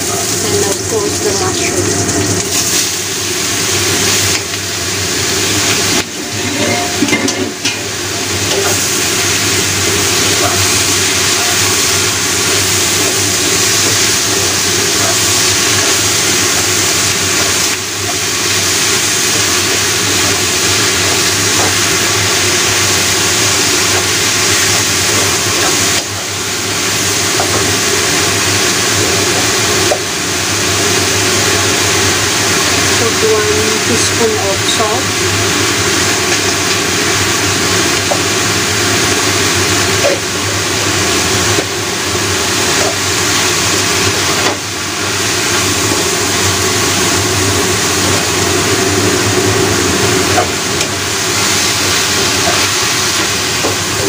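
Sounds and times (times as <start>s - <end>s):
vegetables sizzling in hot oil: 0.0s - 54.0s.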